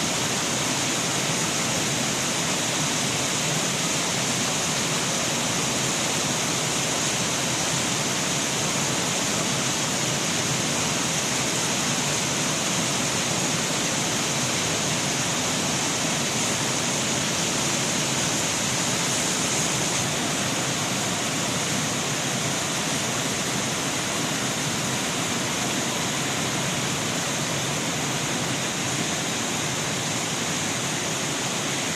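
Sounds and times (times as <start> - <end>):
fountain water splashing into pool: 0.0 - 31.9.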